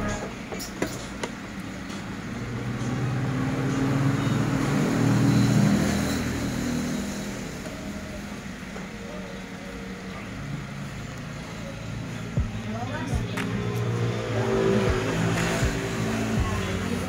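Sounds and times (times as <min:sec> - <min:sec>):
vehicle engine rumble passing: 0:01.7 - 0:17.0.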